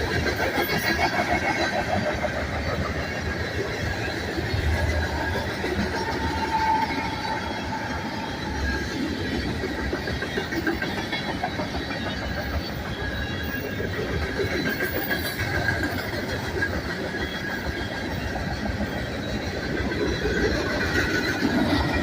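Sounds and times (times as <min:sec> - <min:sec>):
freight train wheels rumbling: 0:00.0 - 0:22.0
high wheel squeal: 0:00.1 - 0:22.0.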